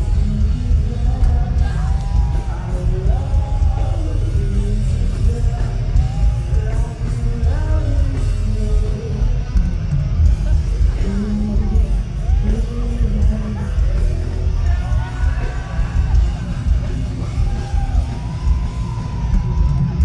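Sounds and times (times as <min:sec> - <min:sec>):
metal band playing live: 0:00.0 - 0:20.0
person singing: 0:00.0 - 0:20.0.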